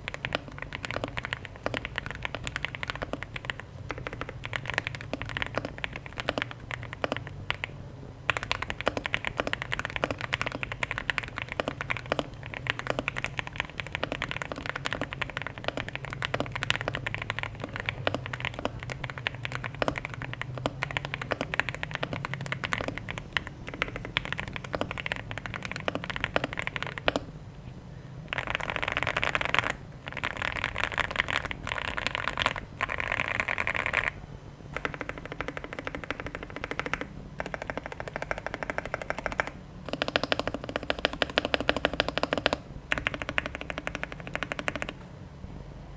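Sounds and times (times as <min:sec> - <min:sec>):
mechanical keyboard typing: 0:00.0 - 0:27.3, 0:28.3 - 0:45.0.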